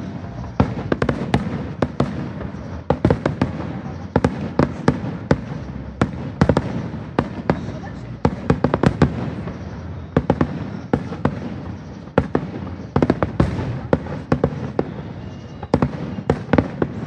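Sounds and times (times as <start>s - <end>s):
fireworks bangs and cracks: 0.0s - 17.0s
rumble of fireworks bursts: 0.0s - 17.0s.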